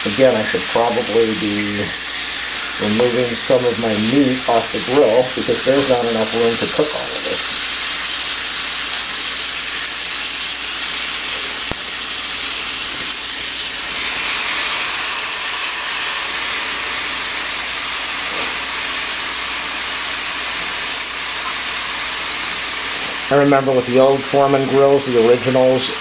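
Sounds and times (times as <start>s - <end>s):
meat sizzling on electric grill: 0.0s - 26.0s.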